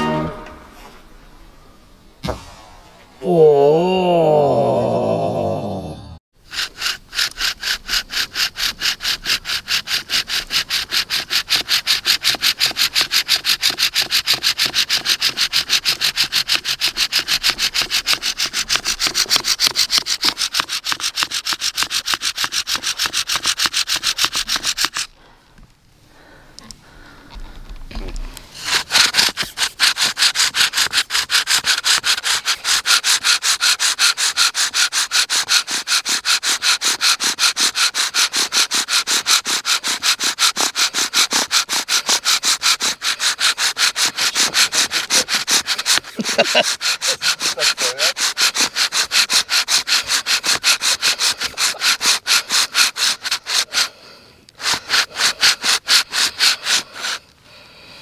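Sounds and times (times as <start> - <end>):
wooden spindle rubbing in board: 6.4 - 25.2, 28.0 - 57.3.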